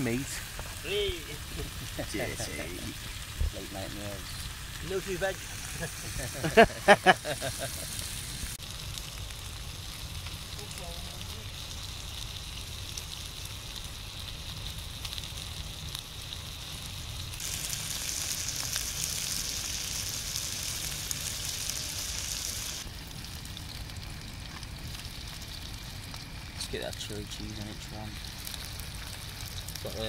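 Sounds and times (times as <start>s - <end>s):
burgers sizzling in a frying pan: 0.0s - 30.0s.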